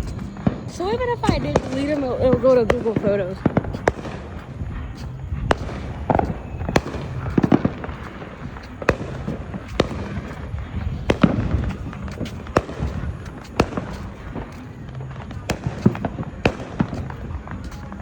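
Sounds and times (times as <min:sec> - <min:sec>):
fireworks bangs and pops: 0:00.0 - 0:18.0
low continuous rumble: 0:00.0 - 0:18.0.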